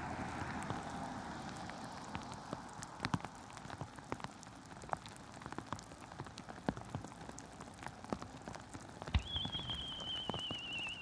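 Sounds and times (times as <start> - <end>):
raindrops ticking on surface: 0.0 - 11.0.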